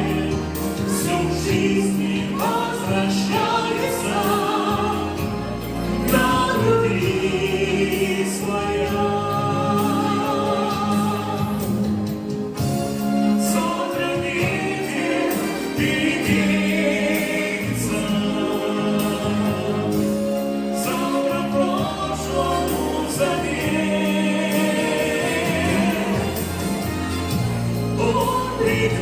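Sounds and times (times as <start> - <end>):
pop song with choir-like singing: 0.0 - 29.0.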